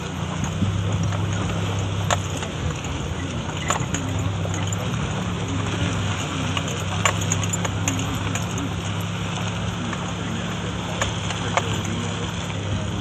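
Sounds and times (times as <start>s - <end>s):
clicks and rattles: 0.0s - 13.0s
low engine hum: 0.0s - 13.0s
tyres crunching on gravel: 0.0s - 13.0s.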